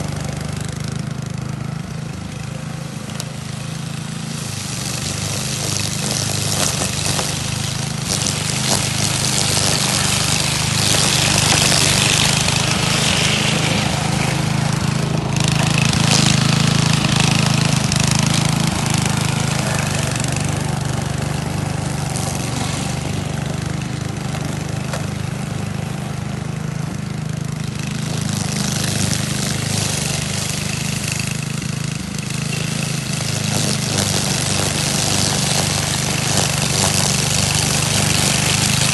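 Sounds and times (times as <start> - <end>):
string trimmer cutting grass: 0.0 - 38.9.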